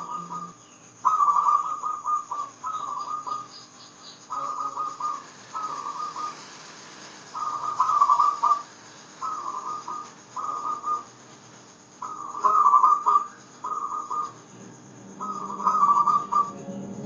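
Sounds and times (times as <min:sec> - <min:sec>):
dove cooing: 0:00.0 - 0:03.6, 0:04.3 - 0:11.2, 0:12.0 - 0:17.0.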